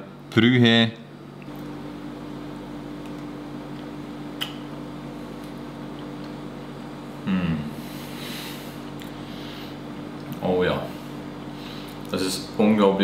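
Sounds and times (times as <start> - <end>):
ventilation hum and hiss: 0.0 - 13.0.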